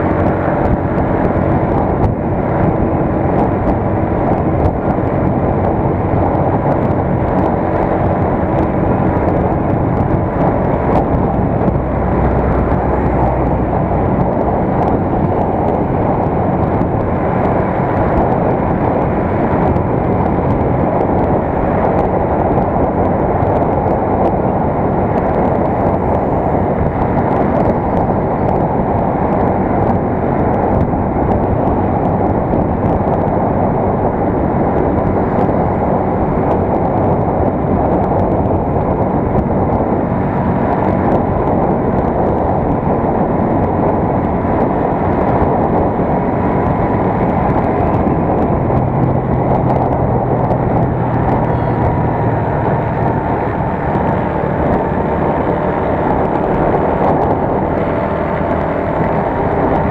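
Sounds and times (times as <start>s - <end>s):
motorcycle engine running: 0.0s - 59.9s
riding wind rush: 0.0s - 59.9s.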